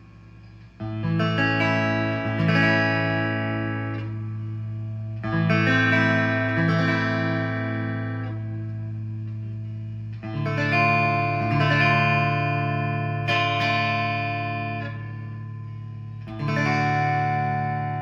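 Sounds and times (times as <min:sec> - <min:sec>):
clean electric guitar chords: 0:00.0 - 0:18.0.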